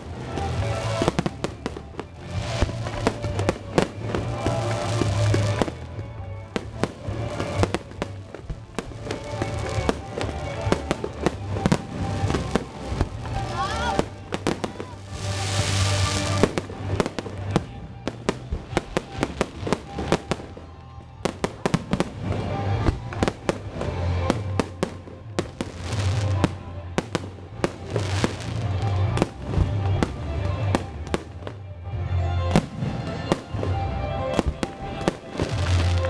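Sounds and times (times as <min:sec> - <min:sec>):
deep fireworks booms: 0:00.0 - 0:31.6
fireworks bangs and crackles: 0:00.0 - 0:31.8, 0:32.5 - 0:36.0
music playing: 0:00.0 - 0:36.0.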